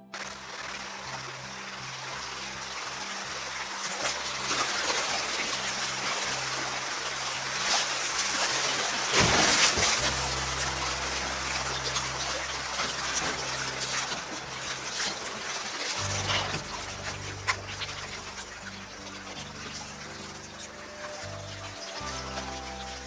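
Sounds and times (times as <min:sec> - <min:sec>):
creek water rushing and splashing: 0:00.0 - 0:23.0.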